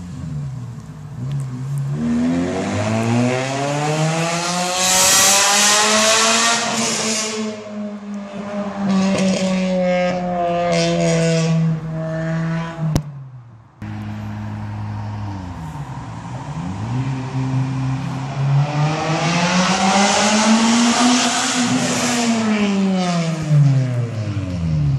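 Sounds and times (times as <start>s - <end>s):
car engine and exhaust: 0.0s - 24.9s.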